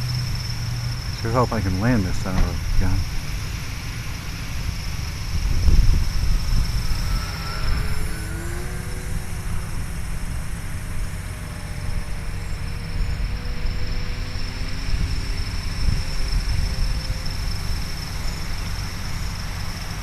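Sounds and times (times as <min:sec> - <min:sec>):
model plane propeller droning: 0:00.0 - 0:20.0
wind rumble on microphone: 0:00.0 - 0:20.0.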